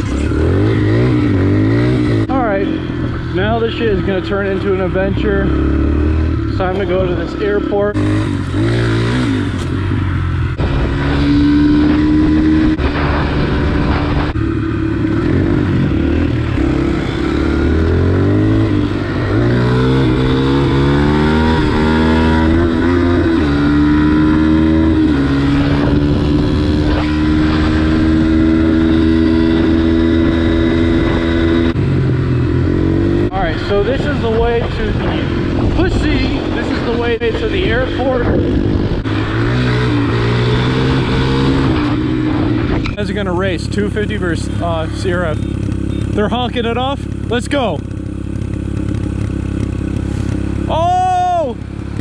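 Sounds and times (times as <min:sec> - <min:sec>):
pit bike engine running: 0:00.0 - 0:52.0.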